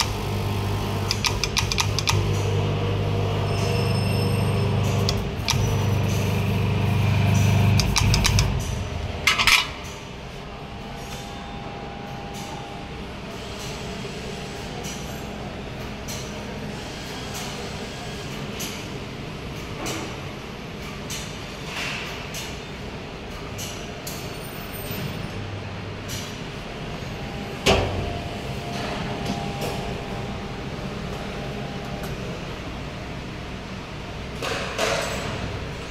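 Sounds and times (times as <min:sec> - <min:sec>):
machine humming and whirring: 0:00.0 - 0:24.2, 0:24.9 - 0:35.9.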